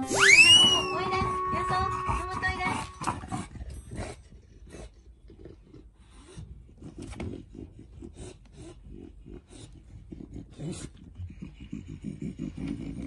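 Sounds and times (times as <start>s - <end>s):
dog breathing noisily: 2.1s - 13.0s.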